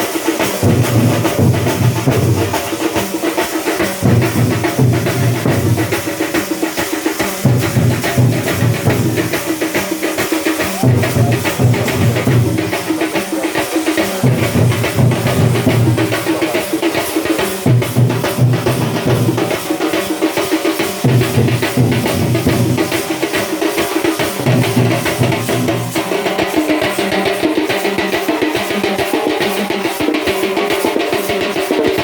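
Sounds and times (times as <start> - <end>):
music with drum beat and bass: 0.0 - 32.0.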